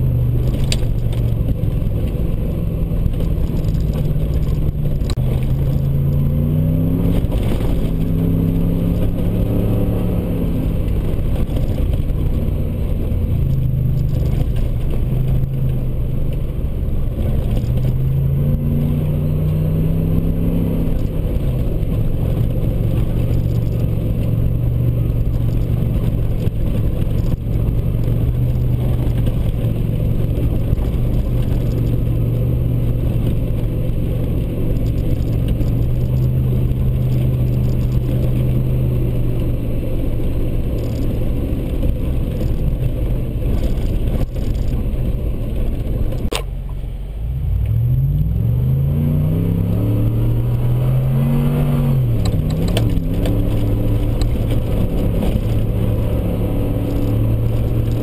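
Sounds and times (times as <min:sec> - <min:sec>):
pickup engine running: 0:00.0 - 0:58.0
tyres rumbling on dirt: 0:00.0 - 0:58.0.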